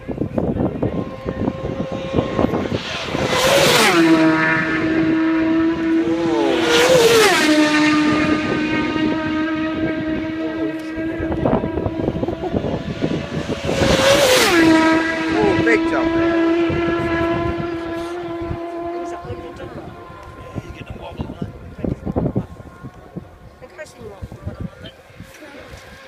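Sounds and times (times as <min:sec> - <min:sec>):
racing motorcycles passing: 0:00.0 - 0:26.0.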